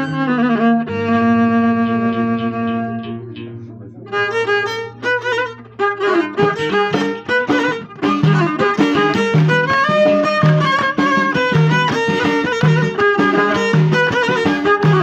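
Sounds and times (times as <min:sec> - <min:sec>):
violin playing: 0:00.0 - 0:15.0.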